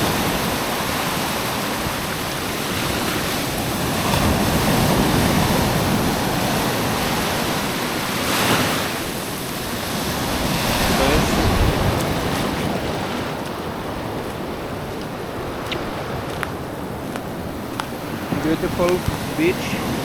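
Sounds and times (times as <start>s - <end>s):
surf washing onto beach: 0.0s - 20.0s
wind on microphone: 0.0s - 20.0s.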